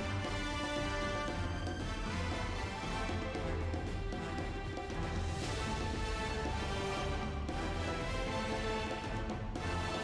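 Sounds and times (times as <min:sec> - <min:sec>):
music with held tones and low beat: 0:00.0 - 0:10.0.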